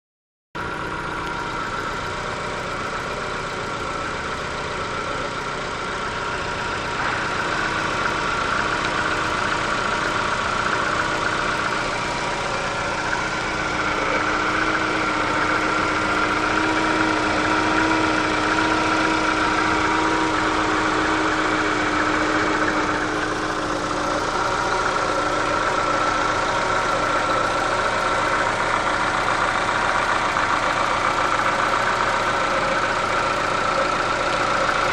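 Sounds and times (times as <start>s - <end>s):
car engine idling: 0.6s - 34.9s.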